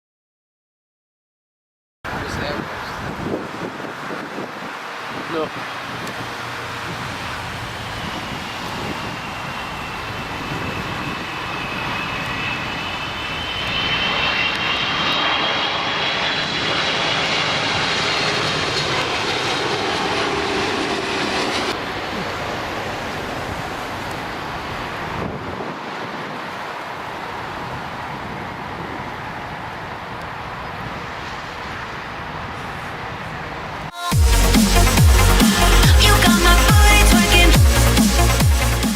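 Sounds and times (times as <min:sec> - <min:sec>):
jet engines rushing with high whine: 0:02.1 - 0:38.9.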